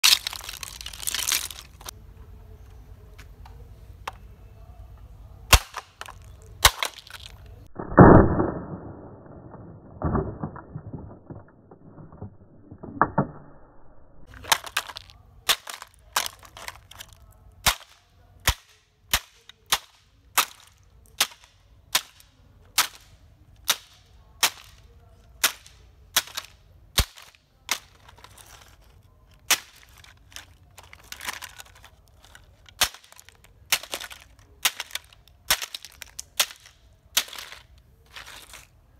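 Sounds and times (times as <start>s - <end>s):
plastic cracking: 0.0s - 1.9s, 5.5s - 38.7s.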